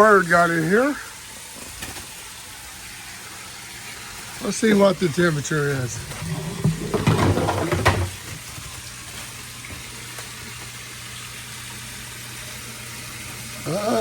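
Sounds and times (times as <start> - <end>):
water fizzing trickle: 0.0 - 14.0.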